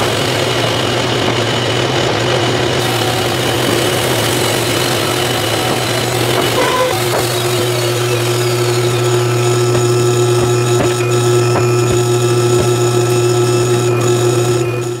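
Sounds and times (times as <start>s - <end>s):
band sawmill humming: 0.0s - 15.0s.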